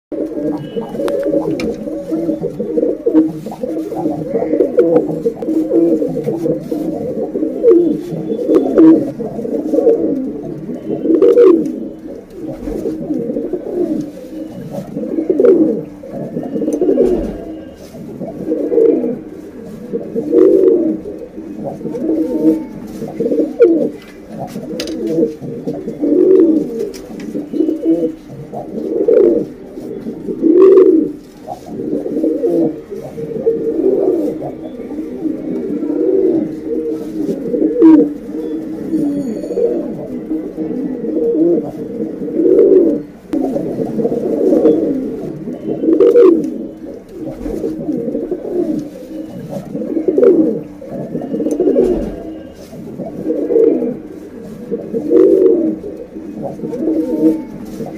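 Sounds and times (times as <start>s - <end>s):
pigeons cooing: 0.1s - 57.9s.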